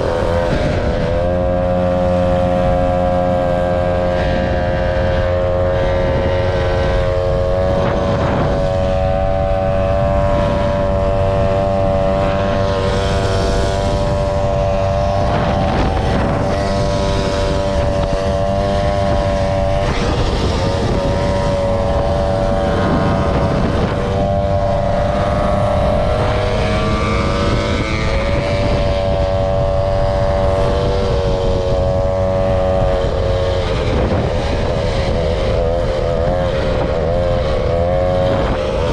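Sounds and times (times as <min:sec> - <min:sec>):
motor scooter engine running: 0:00.0 - 0:38.9.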